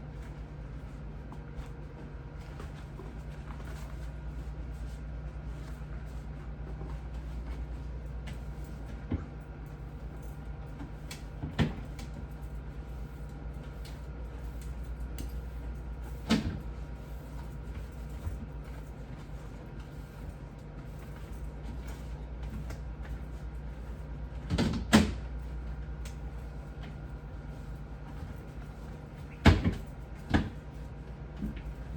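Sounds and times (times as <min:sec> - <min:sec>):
steady low hum: 0:00.0 - 0:31.9
knocks and clunks of fridge parts: 0:05.5 - 0:31.9.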